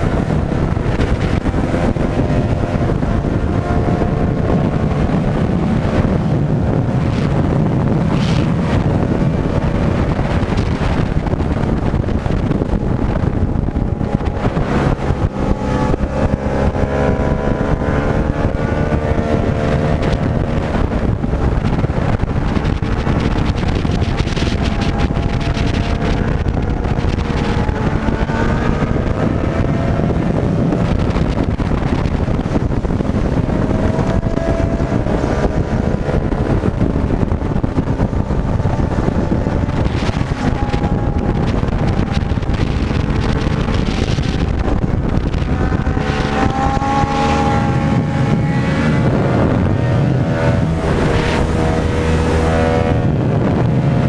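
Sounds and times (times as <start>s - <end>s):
motorcycle engine revving: 0.0s - 54.0s
wind buffeting microphone: 0.0s - 54.0s.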